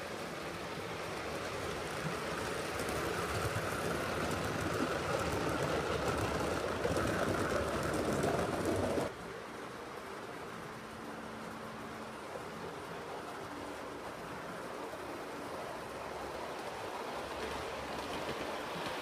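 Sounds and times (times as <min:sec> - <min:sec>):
model train rolling on track: 0:00.0 - 0:19.0.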